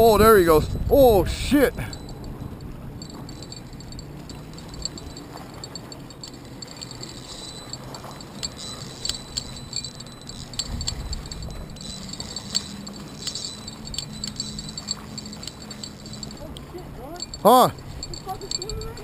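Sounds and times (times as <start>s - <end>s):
fishing reel gears clicking: 0.1s - 0.9s, 1.8s - 19.0s.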